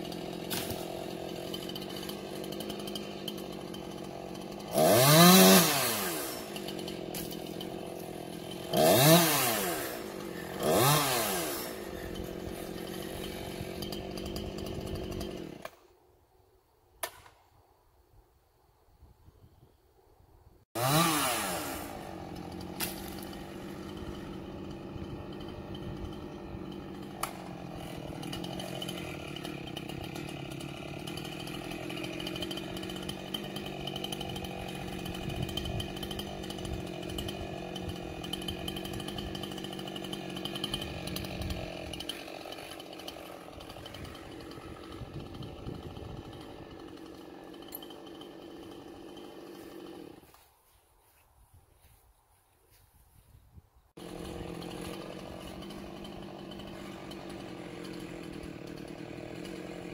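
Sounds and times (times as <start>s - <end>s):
chainsaw revving: 0.0s - 15.8s, 20.8s - 50.4s, 54.0s - 59.9s.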